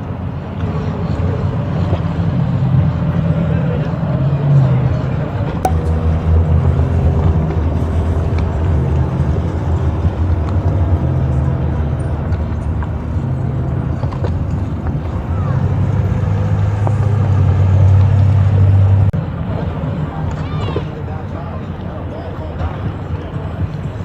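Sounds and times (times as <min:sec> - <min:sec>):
engine running at low revs: 0:00.4 - 0:20.4.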